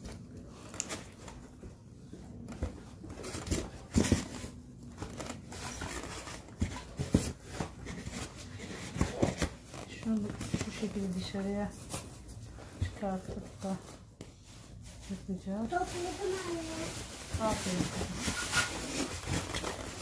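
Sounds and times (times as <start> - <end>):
fabric rustling and crumpling: 0.0 - 20.0
handling sounds: 0.0 - 20.0.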